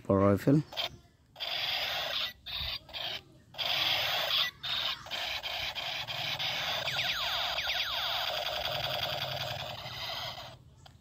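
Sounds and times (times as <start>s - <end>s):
toy gun hissing crackle: 0.8s - 10.6s
falling pew tones: 1.4s - 10.6s.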